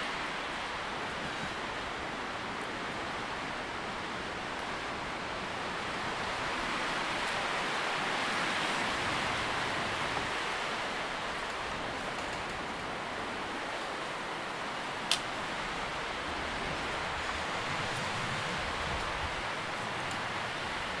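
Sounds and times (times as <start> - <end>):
leaves rustling in wind: 0.0 - 21.0.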